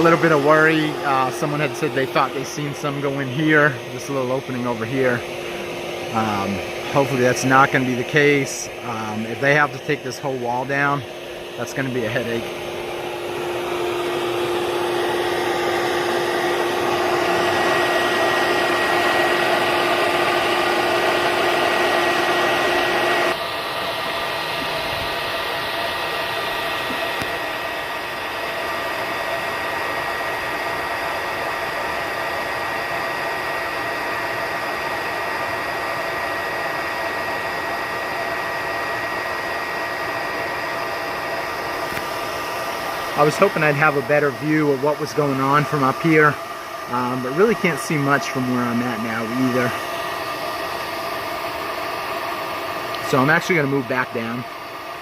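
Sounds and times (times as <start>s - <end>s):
steady whirring drone: 0.0s - 55.0s.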